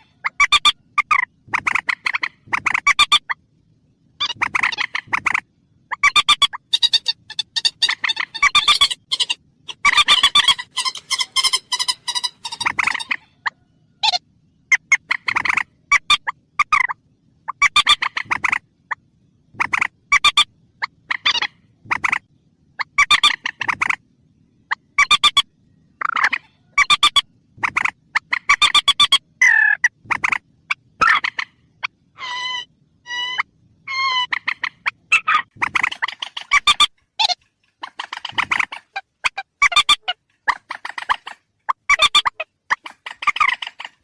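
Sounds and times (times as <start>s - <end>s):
rail bird harsh clucking: 0.0s - 3.4s, 4.1s - 24.0s, 24.7s - 44.0s.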